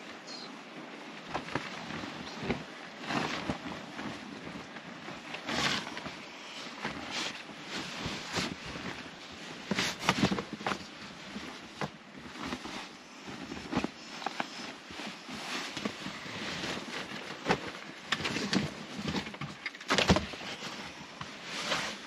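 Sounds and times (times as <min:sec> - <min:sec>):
bed sheets rustling: 0:00.0 - 0:22.0.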